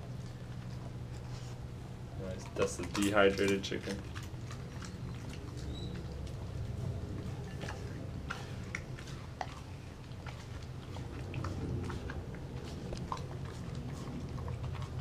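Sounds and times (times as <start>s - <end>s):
dog chewing food: 0.0s - 15.0s.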